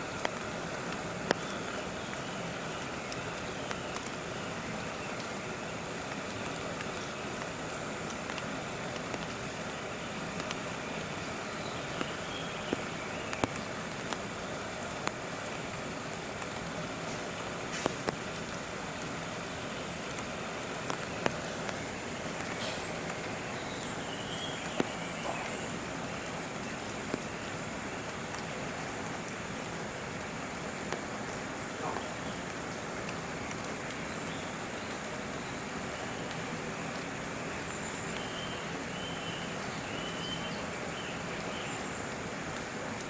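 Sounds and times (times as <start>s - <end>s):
steady background hiss: 0.0s - 43.0s.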